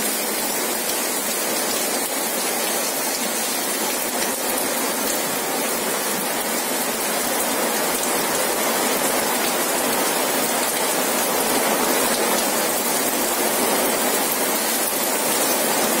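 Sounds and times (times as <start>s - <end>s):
rain pouring: 0.0s - 16.0s.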